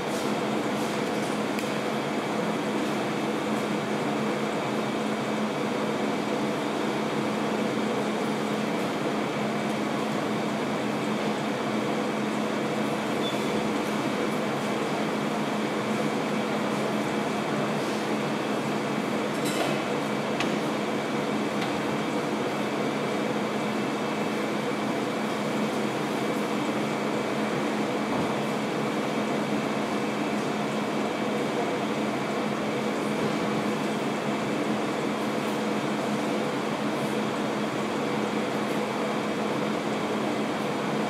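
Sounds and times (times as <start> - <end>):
air conditioning hum and hiss: 0.0 - 41.0.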